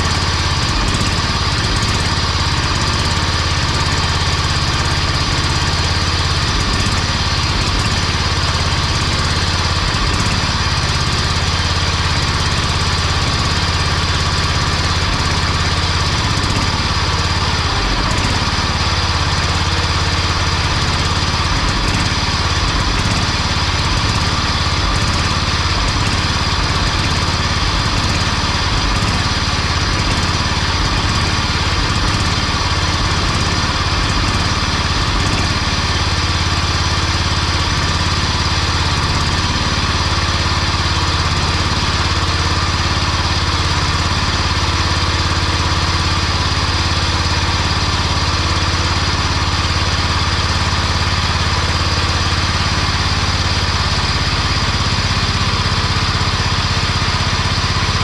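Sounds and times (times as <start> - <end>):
mower engine running: 0.0 - 58.0.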